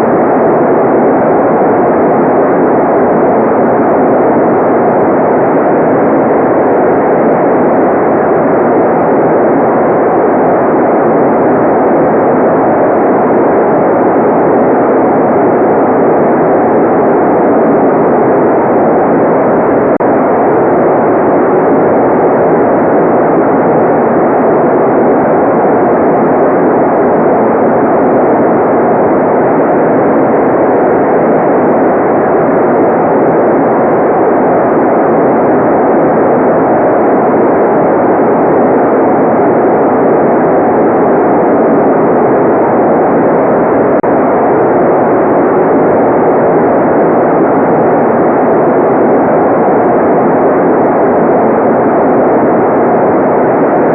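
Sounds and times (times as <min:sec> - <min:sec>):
muffled synthetic noise: 0:00.0 - 0:53.9.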